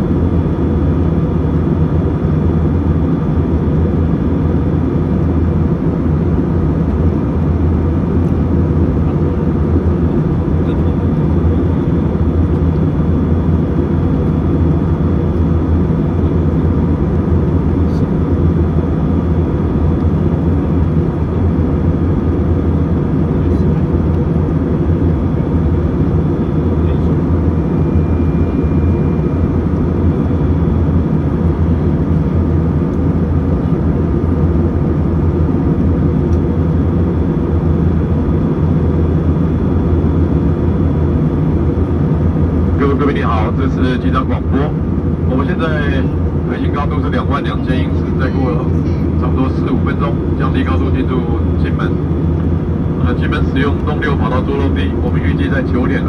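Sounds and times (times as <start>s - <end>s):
airliner cabin rumble: 0.0s - 56.0s
faint hum tones: 0.0s - 56.0s.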